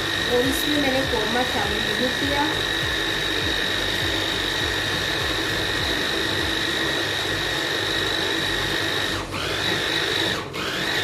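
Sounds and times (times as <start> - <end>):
electric blender motor whining: 0.0 - 11.0.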